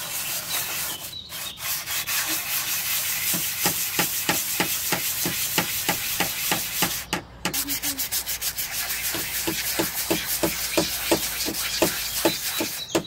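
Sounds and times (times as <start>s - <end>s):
knife scraping on abrasive paper: 0.0s - 13.0s.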